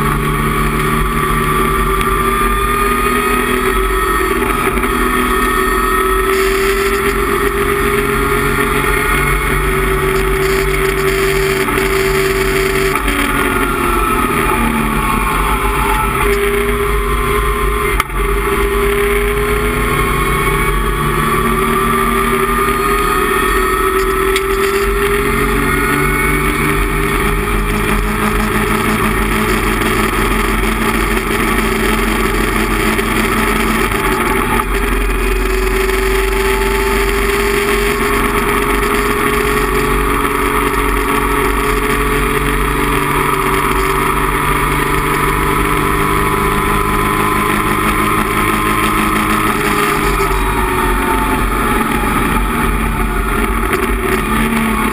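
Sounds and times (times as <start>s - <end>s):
race car engine at high revs: 0.0s - 54.9s
wind and road noise: 0.0s - 54.9s.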